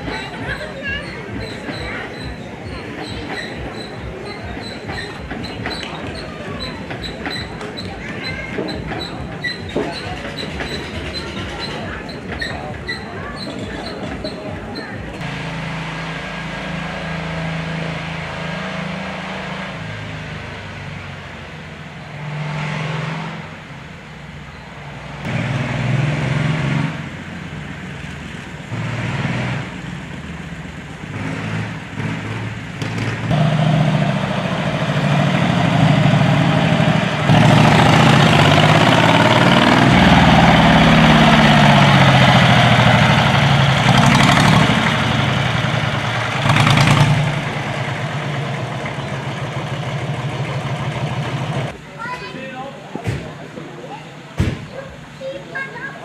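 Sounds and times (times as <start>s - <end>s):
old vehicle engines revving: 0.0s - 51.9s.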